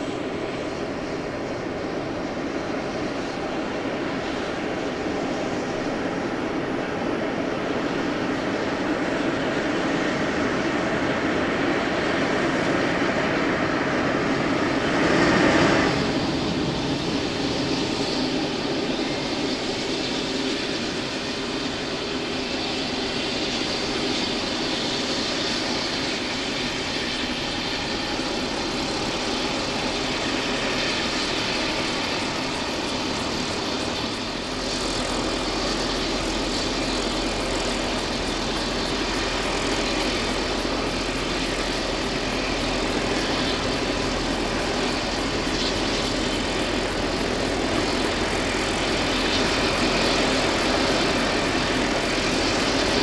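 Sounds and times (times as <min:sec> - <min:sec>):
helicopter turbine engines running: 0:00.0 - 0:53.0.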